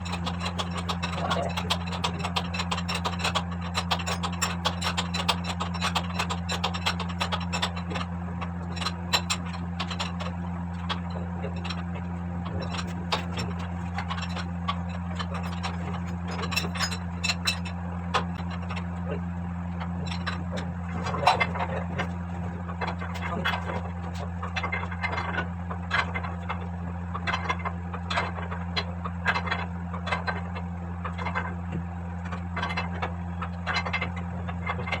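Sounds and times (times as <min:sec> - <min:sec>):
low machinery hum: 0:00.0 - 0:35.0.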